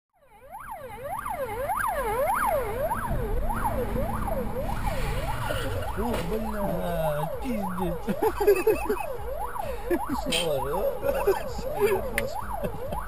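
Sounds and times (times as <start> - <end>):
police siren yelping: 0.2 - 13.0
moving vehicle rumble: 0.5 - 13.0.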